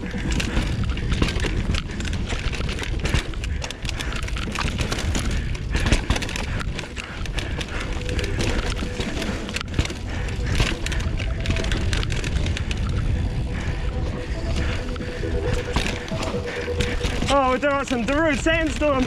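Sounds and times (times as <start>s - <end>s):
bike knocking and rattling: 0.0s - 19.0s
bike tyres rumbling on dirt: 0.0s - 19.0s.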